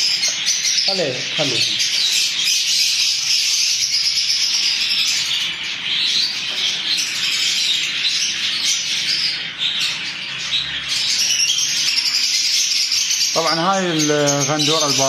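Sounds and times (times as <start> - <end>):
budgerigars chattering: 0.0 - 15.0.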